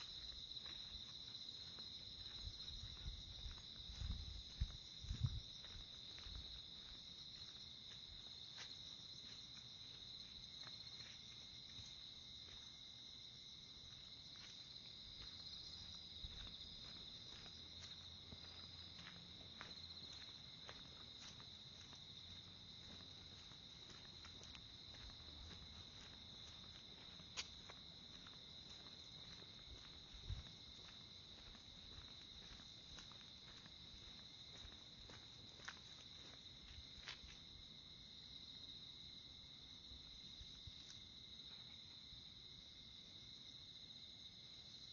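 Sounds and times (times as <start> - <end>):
soft footsteps: 0.0 - 37.6.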